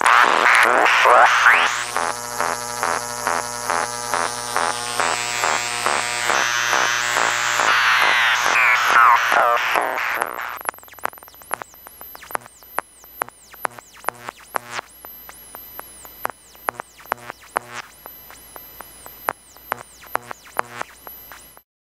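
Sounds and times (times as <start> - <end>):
irregular electronic clicks: 1.5 - 21.6.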